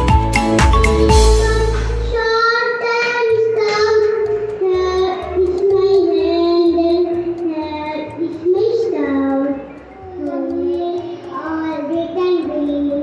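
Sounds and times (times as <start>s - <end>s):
boy singing into a microphone: 1.0s - 13.0s.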